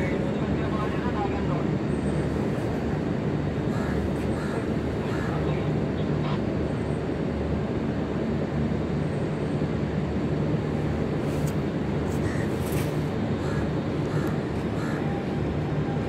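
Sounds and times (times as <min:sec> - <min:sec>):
ship machinery rumble and hum: 0:00.0 - 0:16.0.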